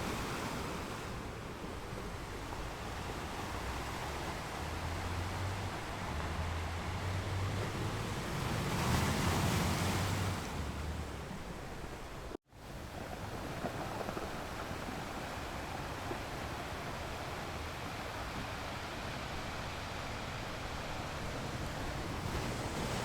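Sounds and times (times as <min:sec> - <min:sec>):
ocean surf washing: 0:00.0 - 0:23.0.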